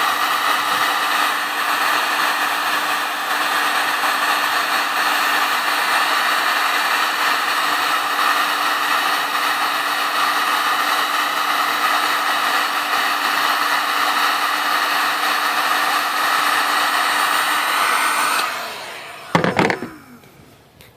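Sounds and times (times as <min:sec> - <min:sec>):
heat gun blowing air: 0:00.0 - 0:20.6.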